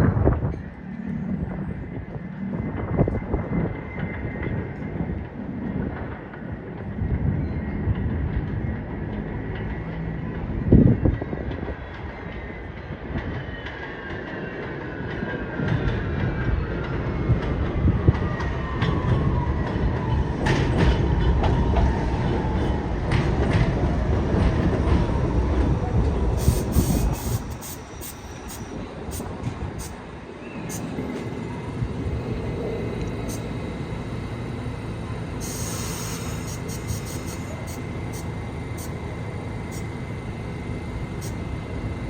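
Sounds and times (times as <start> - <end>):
subway train wheels clattering: 0.0 - 42.0
train rumble: 0.0 - 42.0.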